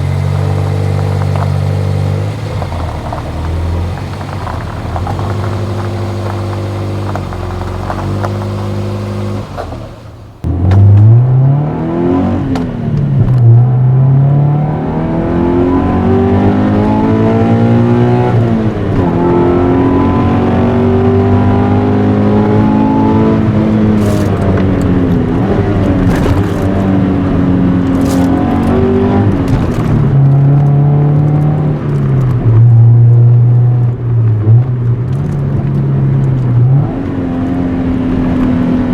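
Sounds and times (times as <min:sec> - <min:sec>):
car engine accelerating and shifting gears: 0:00.0 - 0:38.9.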